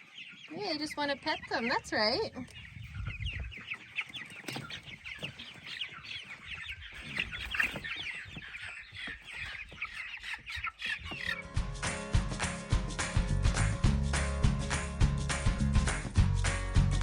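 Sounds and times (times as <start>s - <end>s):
chicks peeping: 0.0s - 13.9s.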